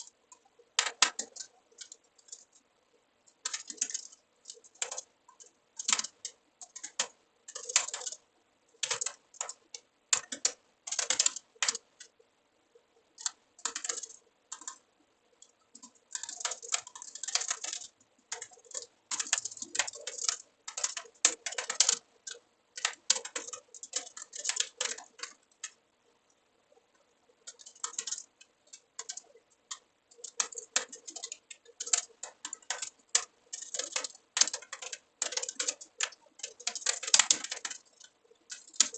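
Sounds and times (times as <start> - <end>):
typing on computer keyboard: 0.0 - 2.7, 3.3 - 12.2, 13.1 - 25.8, 26.7 - 38.9.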